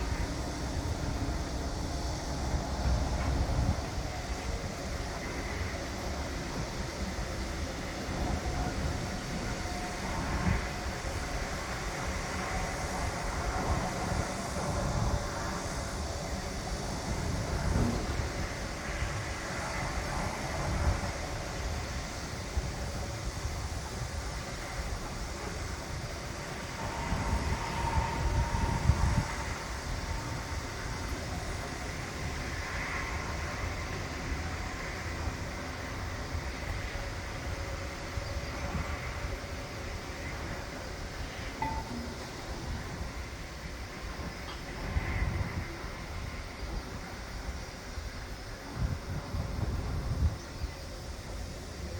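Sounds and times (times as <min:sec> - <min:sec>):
construction machinery rumbling: 0:00.0 - 0:45.0
faint steady tones: 0:00.0 - 0:51.9.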